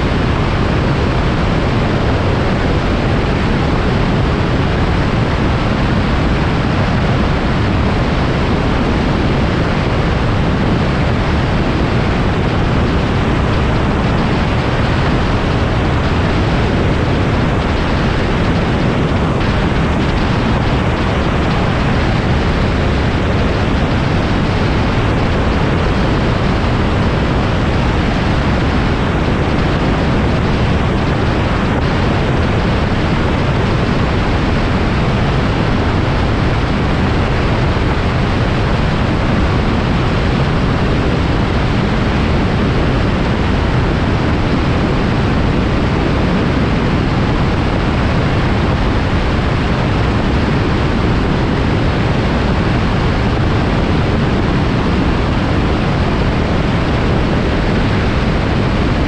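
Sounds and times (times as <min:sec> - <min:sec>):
aircraft engine noise: 0:00.0 - 0:59.0
wind rushing: 0:00.0 - 0:59.0.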